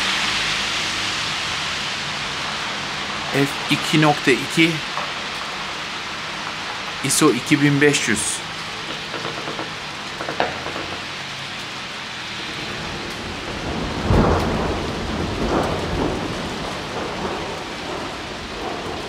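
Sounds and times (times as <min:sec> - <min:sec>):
rain falling on a wet street: 0:00.0 - 0:19.0.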